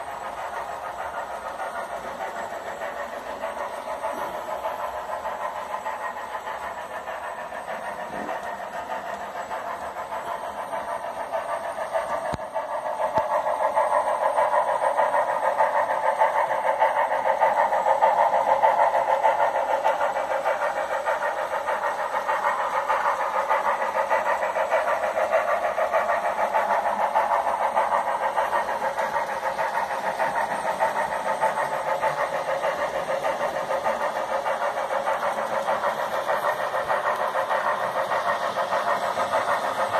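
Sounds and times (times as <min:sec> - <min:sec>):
model steam locomotive chuffing: 0:00.0 - 0:39.9.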